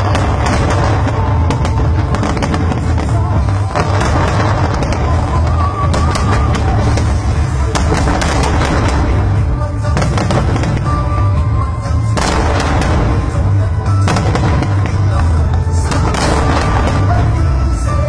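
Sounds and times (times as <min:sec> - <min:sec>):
deep rumble: 0:00.0 - 0:18.0
fireworks bangs and crackles: 0:00.0 - 0:18.0
music playing: 0:00.0 - 0:18.0.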